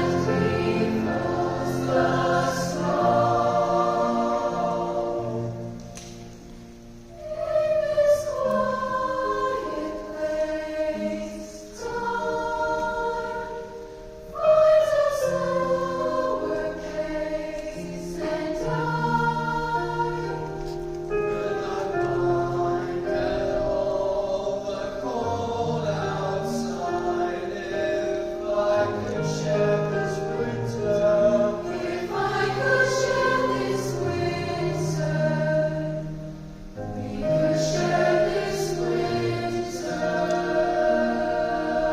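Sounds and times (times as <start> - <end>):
vocal ensemble singing in harmony: 0.0 - 41.9.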